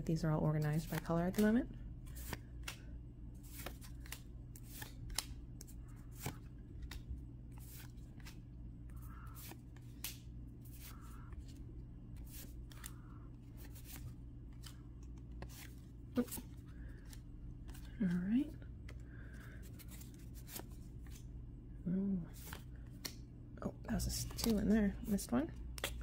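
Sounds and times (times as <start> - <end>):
trading cards clicking and sliding: 0.5 - 2.8, 3.4 - 21.2, 24.0 - 26.0.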